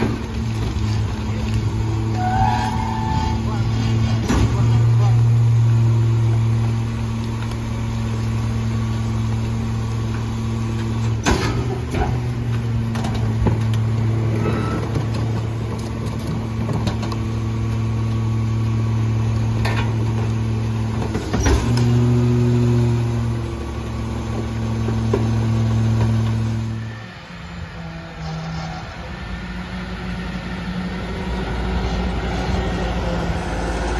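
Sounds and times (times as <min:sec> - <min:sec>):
hydraulic packer blade compacting: 0:00.0 - 0:29.1
garbage truck running: 0:00.0 - 0:33.9.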